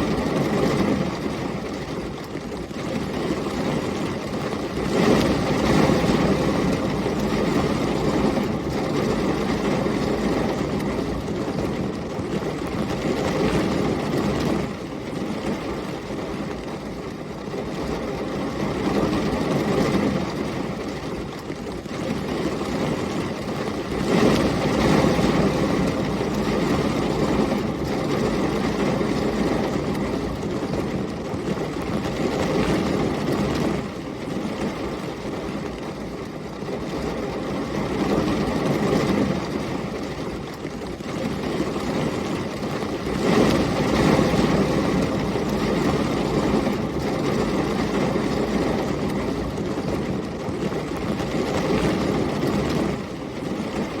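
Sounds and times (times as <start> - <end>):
heavy rain: 0.0 - 54.0
storm wind: 0.0 - 54.0.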